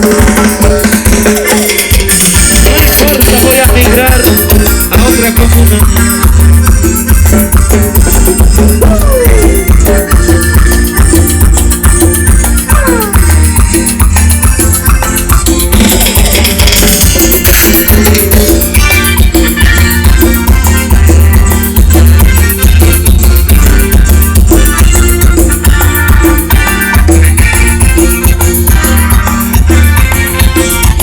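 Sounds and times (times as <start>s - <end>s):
latin dance band playing: 0.0s - 31.0s.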